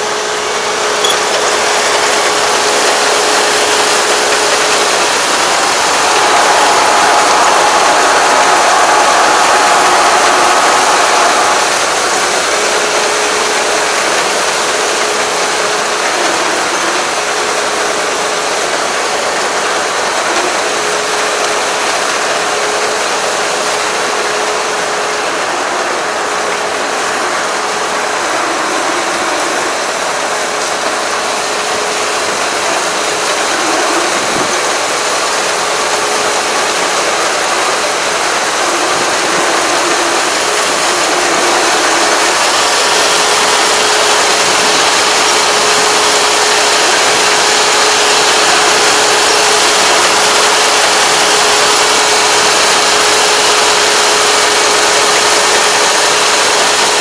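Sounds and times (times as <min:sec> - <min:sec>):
combine harvester rattle and hum: 0:00.0 - 0:06.4, 0:11.6 - 0:57.0.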